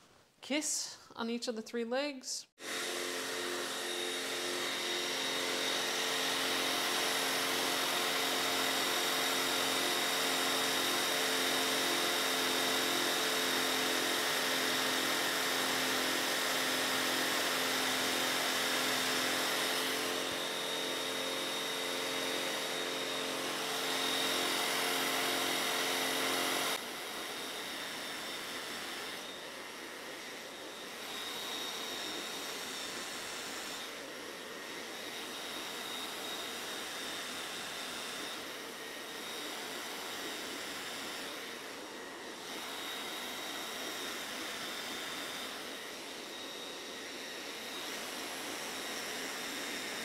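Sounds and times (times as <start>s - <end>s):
belt sander sanding wood: 2.6s - 50.0s.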